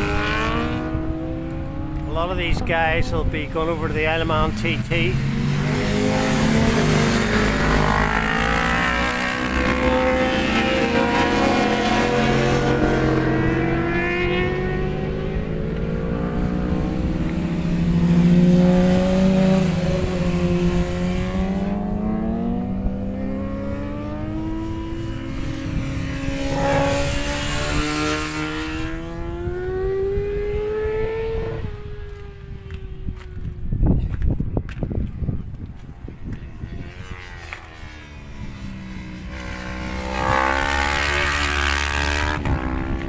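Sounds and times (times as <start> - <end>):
racing motorcycles at high revs: 0.0 - 43.0.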